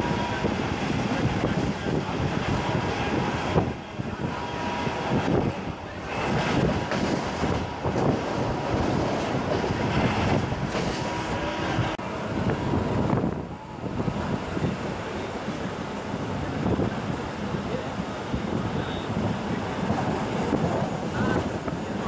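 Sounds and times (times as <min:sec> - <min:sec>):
train rumbling on rails: 0:00.0 - 0:22.0
wind buffeting microphone: 0:00.0 - 0:22.0.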